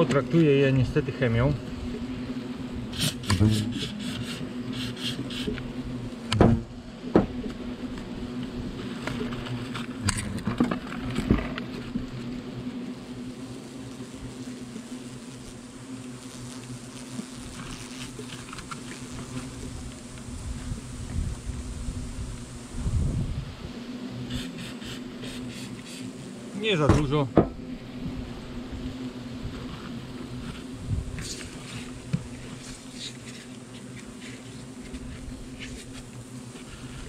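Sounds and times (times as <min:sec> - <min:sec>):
hornets buzzing: 0:00.0 - 0:37.0.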